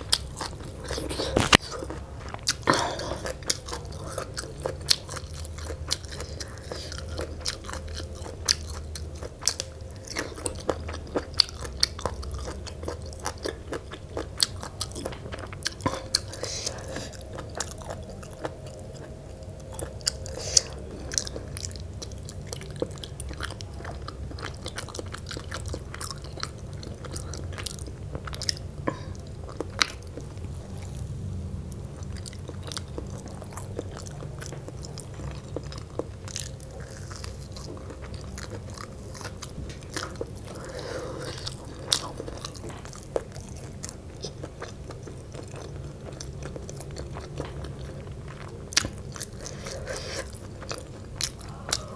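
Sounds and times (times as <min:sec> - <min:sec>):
close chewing and biting: 0:00.0 - 0:51.9
low steady hum: 0:00.0 - 0:51.9.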